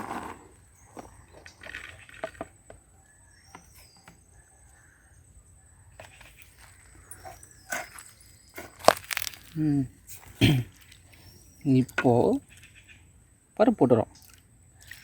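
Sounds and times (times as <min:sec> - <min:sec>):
bird chirp: 0:00.0 - 0:15.0.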